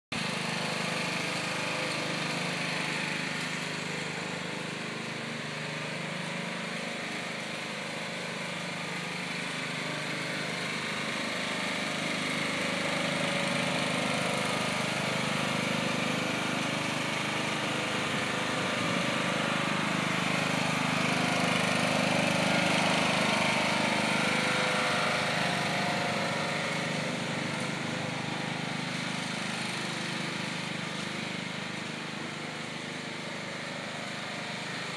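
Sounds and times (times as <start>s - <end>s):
riding lawn mower engine: 0.1s - 34.9s.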